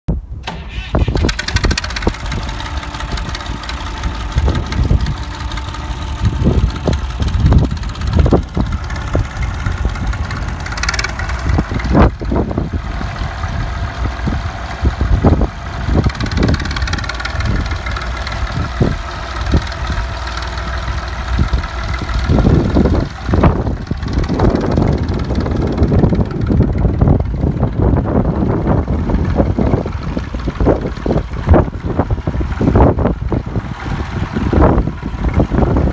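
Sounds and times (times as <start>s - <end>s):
tractor engine idling: 0.4s - 35.9s.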